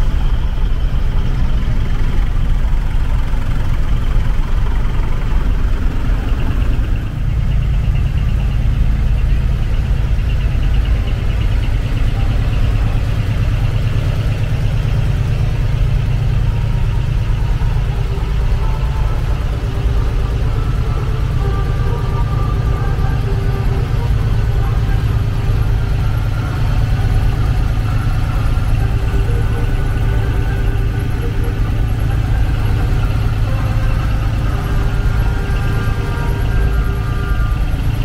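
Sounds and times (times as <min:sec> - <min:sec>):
diesel engines idling: 0:00.0 - 0:38.0.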